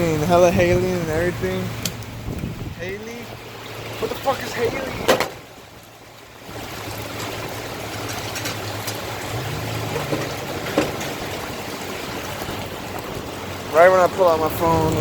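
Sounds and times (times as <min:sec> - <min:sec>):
heavy rain falling: 0:00.0 - 0:15.0
water running: 0:00.0 - 0:15.0.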